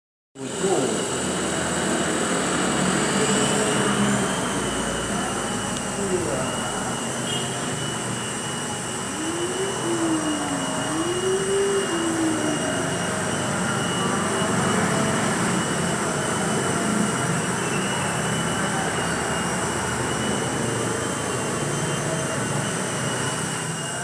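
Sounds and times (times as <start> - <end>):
toy helicopter rotor whirring: 0.4 - 24.0.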